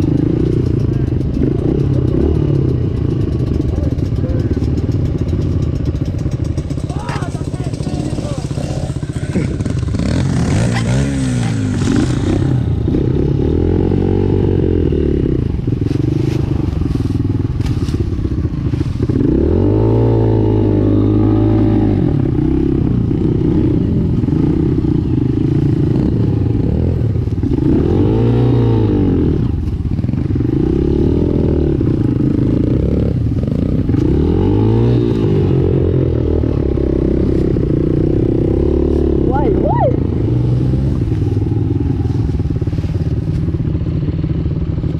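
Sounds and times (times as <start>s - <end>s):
dirt bike engine revving: 0.0s - 44.2s.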